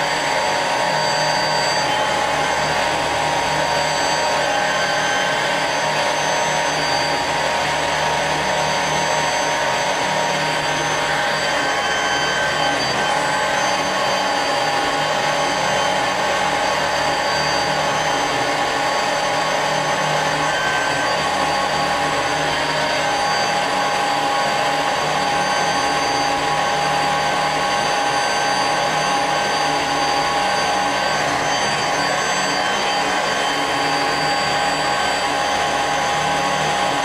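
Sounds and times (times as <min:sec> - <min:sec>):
lathe machining with whining tones: 0:00.0 - 0:37.0.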